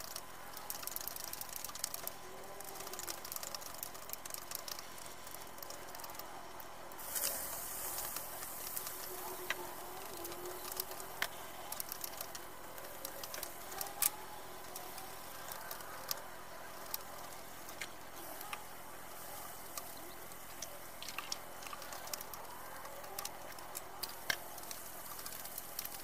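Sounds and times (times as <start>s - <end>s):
oil sizzling: 0.0s - 26.0s.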